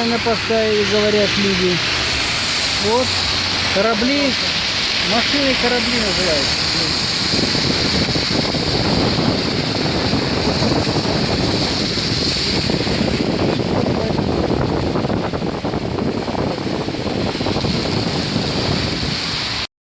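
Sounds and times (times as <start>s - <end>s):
cars ploughing through floodwater: 0.0s - 19.7s.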